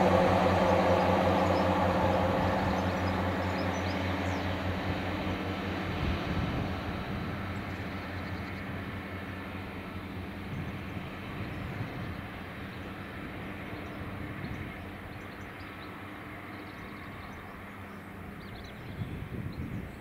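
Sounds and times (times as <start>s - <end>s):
diesel railbus engine hum: 0.0s - 20.0s.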